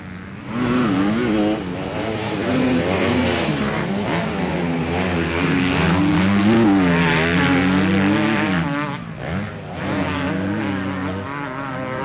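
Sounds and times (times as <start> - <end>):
motorbike engines revving: 0.0 - 12.0.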